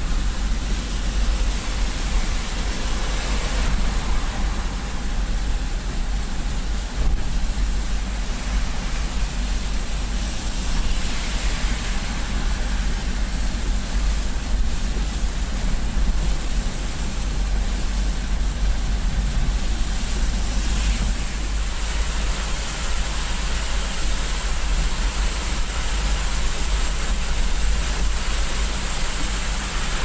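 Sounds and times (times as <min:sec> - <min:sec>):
rain and tyre spray hiss: 0:00.0 - 0:30.0
road and engine rumble: 0:00.0 - 0:30.0.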